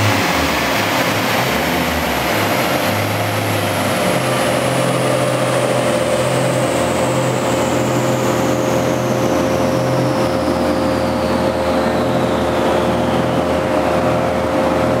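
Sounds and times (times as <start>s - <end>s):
high whine falling in pitch: 0.0s - 15.0s
mechanical hum of drivetrain: 0.0s - 15.0s.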